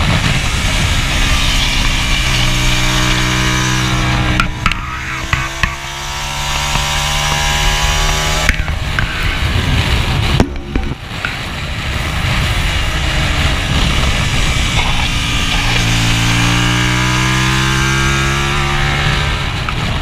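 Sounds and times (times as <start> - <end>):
heavy wind rush: 0.0 - 20.0
motorcycle engine running hard: 0.0 - 20.0.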